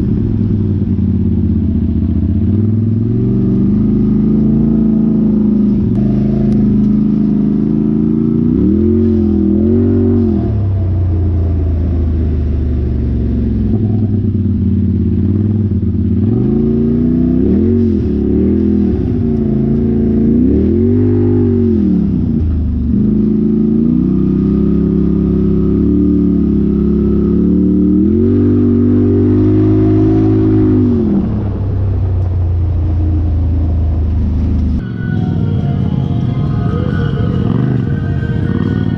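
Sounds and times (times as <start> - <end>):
off-road vehicle engine revving: 0.0 - 34.8, 35.8 - 38.9.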